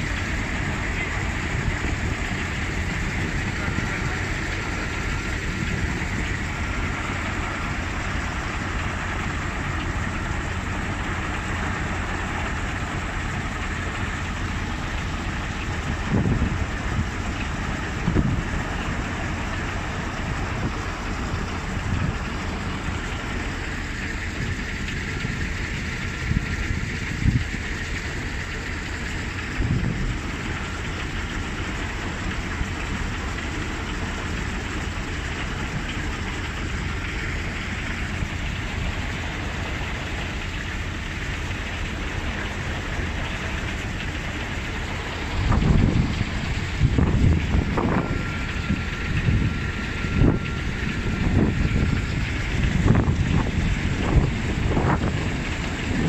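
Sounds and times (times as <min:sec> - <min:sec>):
fire pump running: 0:00.0 - 0:56.0
water rushing through hose: 0:00.0 - 0:56.0.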